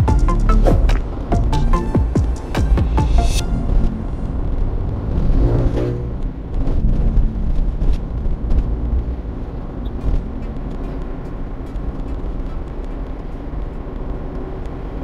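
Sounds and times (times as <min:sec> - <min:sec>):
car road and engine rumble: 0:00.0 - 0:15.0
passing vehicle engine: 0:00.0 - 0:15.0.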